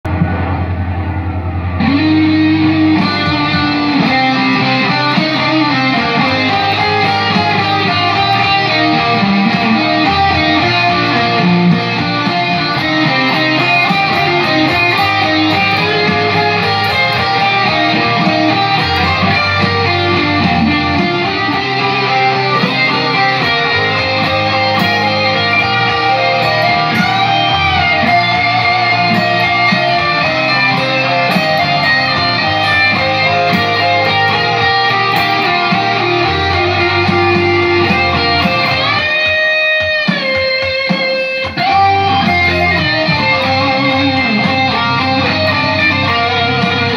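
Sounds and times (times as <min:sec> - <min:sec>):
bass line: 0:00.0 - 0:39.1, 0:41.7 - 0:46.9
electric guitar lead: 0:00.0 - 0:46.9
rock backing track: 0:00.0 - 0:46.9.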